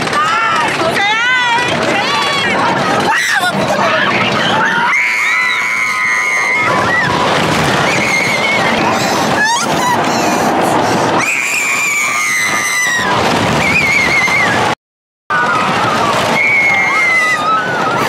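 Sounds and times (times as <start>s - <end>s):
people screaming: 0.0s - 18.0s
steady rush of noise: 0.0s - 18.0s.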